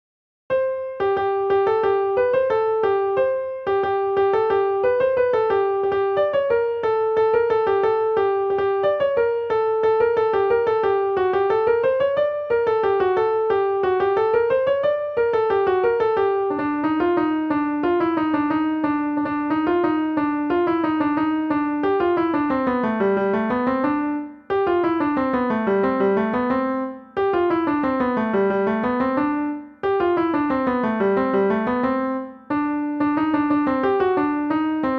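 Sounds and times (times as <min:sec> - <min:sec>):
lively piano melody: 0:00.5 - 0:34.9.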